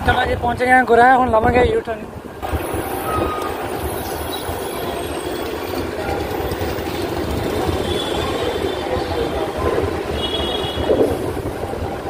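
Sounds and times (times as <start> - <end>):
highway traffic rumble: 0.0 - 12.0.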